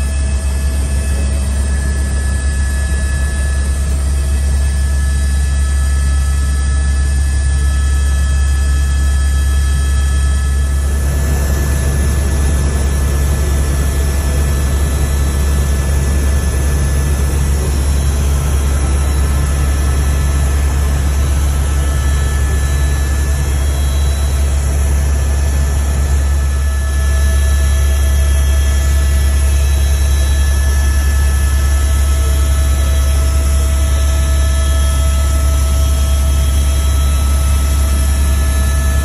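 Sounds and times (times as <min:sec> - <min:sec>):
helicopter rotor drone: 0:00.0 - 0:39.0
high engine and gearbox whine: 0:00.0 - 0:39.0.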